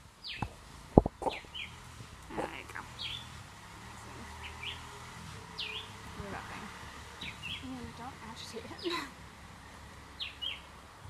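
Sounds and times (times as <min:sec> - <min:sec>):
wild birds chirping: 0:00.0 - 0:11.0.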